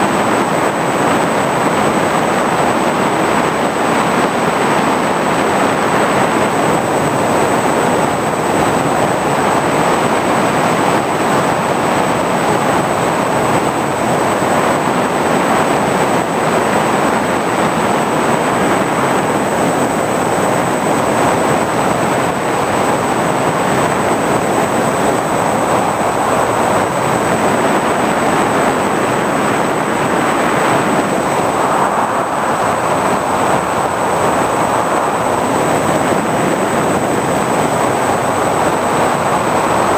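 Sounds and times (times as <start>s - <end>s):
thin high whine: 0.0s - 39.9s
wind rush: 0.0s - 39.9s.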